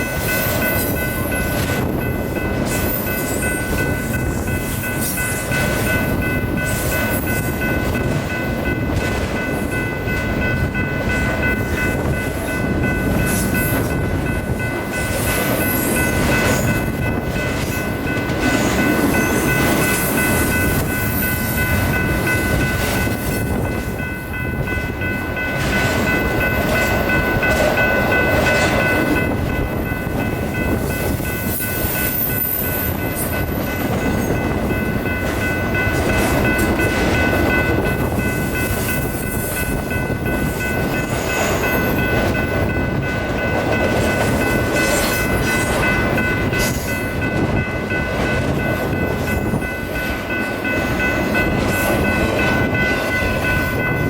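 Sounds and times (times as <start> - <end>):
high ringing tone: 0.0 - 54.0
train wheels rumbling and rattling: 0.0 - 54.0.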